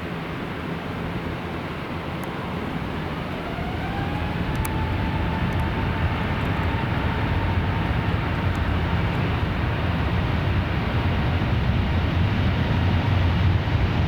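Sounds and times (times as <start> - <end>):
jet engine roar: 0.0 - 14.0
jet fan whine: 0.0 - 14.0.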